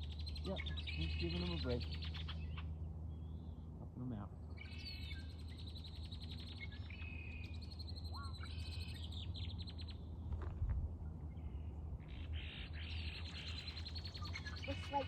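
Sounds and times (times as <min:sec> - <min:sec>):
birds singing and chirping: 0:00.0 - 0:15.0.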